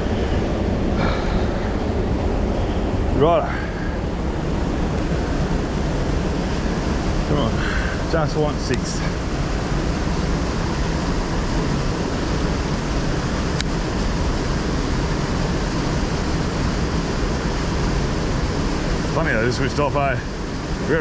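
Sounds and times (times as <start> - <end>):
river water rushing through rapids: 0.0 - 21.0.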